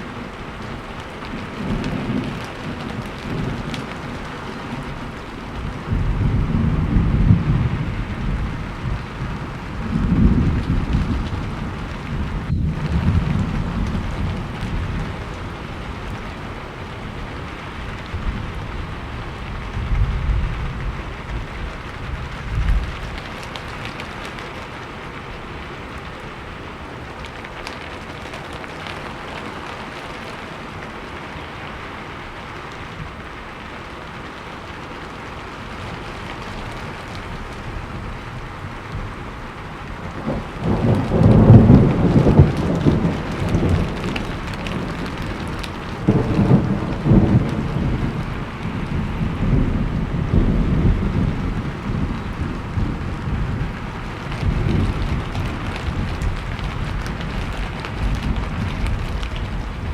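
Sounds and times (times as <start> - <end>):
steady rain falling: 0.0 - 59.9
thunder rolling: 0.1 - 24.7, 35.6 - 59.9.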